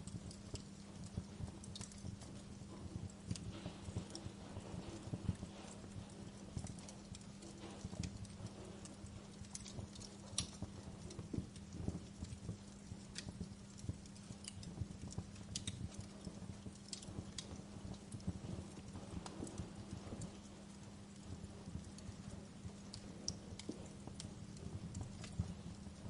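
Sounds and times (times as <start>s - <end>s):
faint low hum: 0.0s - 26.0s
wood fire crackling: 0.0s - 26.0s.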